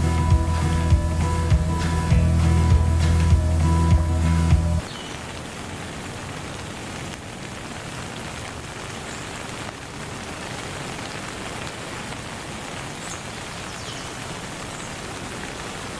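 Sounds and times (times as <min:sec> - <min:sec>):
steady rain falling: 0:00.0 - 0:15.9.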